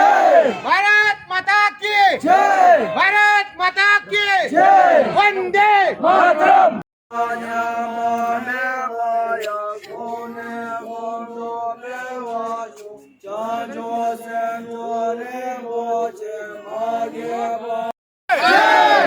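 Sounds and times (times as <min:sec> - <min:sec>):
men chanting in unison: 0:00.0 - 0:03.1, 0:03.7 - 0:19.0.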